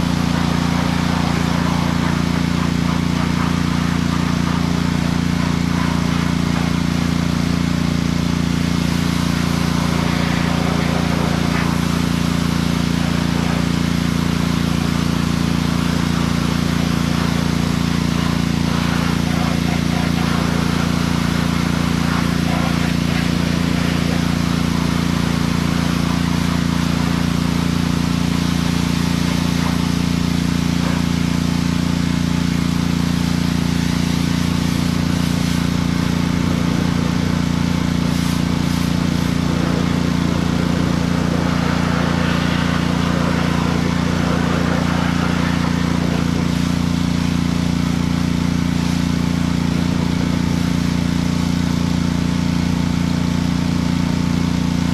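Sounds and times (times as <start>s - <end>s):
pressure washer running: 0.0s - 54.9s
water spray hiss: 0.0s - 54.9s.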